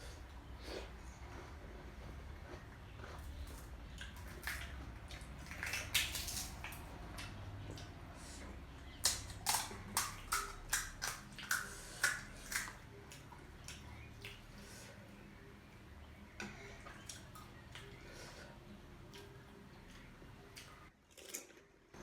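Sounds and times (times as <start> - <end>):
chewing crunchy food: 0.0 - 15.0, 16.7 - 22.0.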